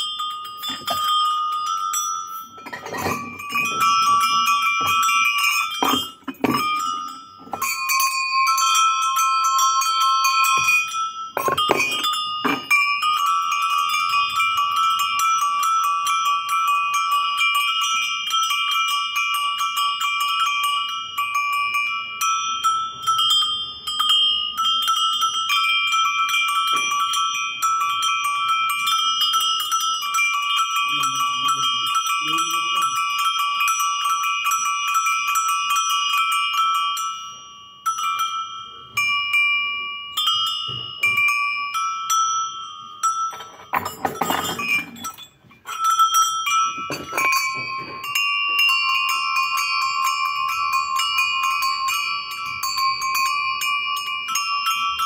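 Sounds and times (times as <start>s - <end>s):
metal goat bells ringing: 0.0s - 55.0s.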